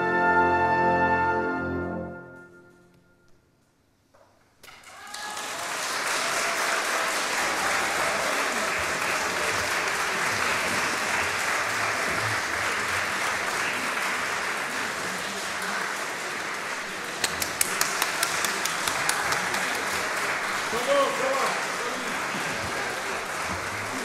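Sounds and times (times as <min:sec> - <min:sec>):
audience applauding: 0:04.7 - 0:24.0.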